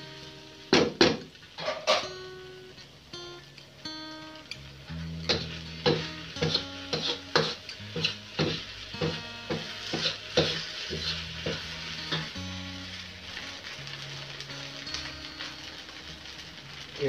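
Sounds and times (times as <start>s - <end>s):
noodles sizzling: 0.0s - 17.0s
soft background music: 0.0s - 17.0s.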